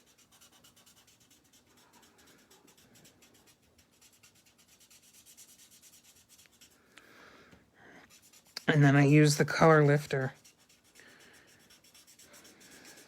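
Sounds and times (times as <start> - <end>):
marker scratching on paper: 0.0 - 6.8, 8.0 - 13.0.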